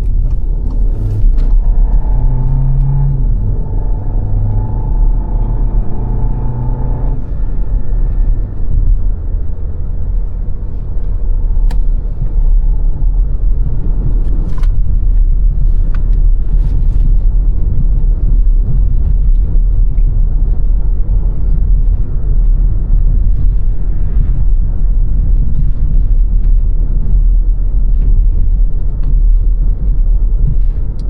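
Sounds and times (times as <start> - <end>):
road and tyre noise: 0.0 - 31.0.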